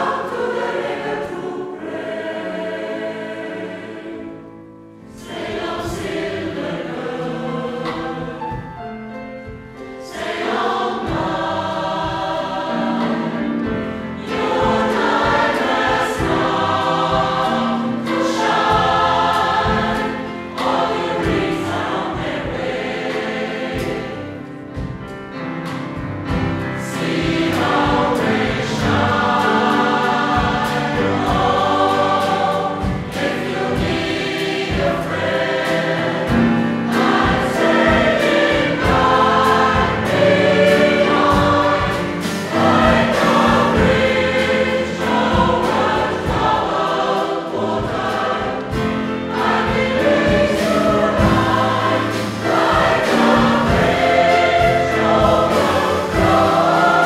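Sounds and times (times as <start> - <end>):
mixed choir singing in harmony: 0.0 - 57.0
piano: 0.0 - 57.0
drum kit: 5.2 - 57.0.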